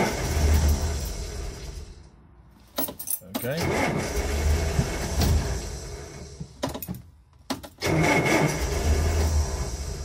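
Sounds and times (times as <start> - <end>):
car engine starting and dying: 0.0 - 2.1, 3.4 - 6.9, 7.5 - 10.0.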